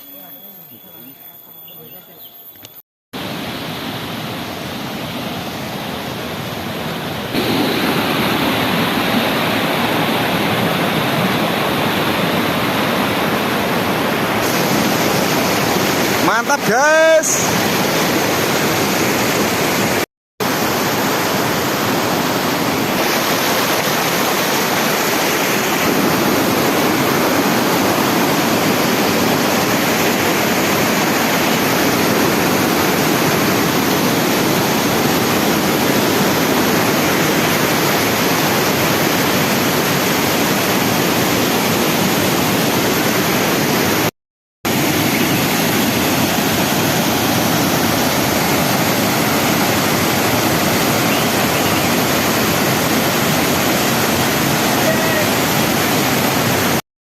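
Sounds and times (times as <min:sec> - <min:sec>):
swift river water rushing: 0:03.2 - 0:44.1, 0:44.7 - 0:56.8.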